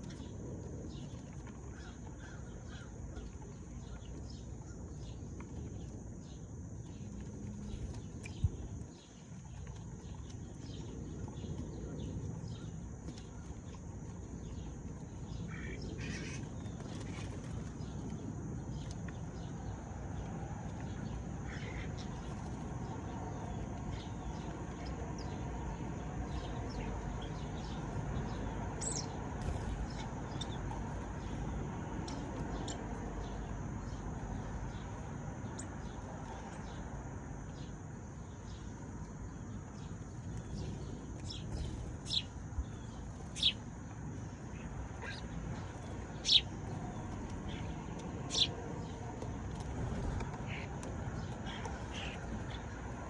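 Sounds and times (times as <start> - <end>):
low background rumble: 0.0 - 53.0
sparrows chirping: 0.0 - 53.0.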